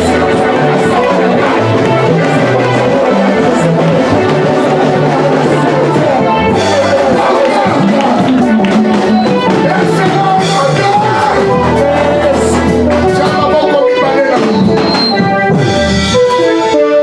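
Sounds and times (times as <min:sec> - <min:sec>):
upbeat music with drums and bass: 0:00.0 - 0:17.0.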